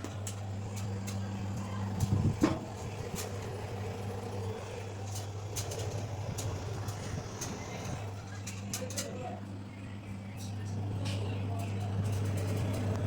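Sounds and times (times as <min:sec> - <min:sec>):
low electrical machine hum: 0:00.0 - 0:13.0.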